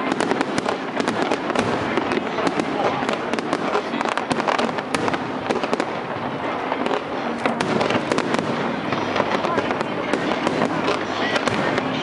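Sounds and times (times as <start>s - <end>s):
fireworks crackle: 0.0s - 12.0s.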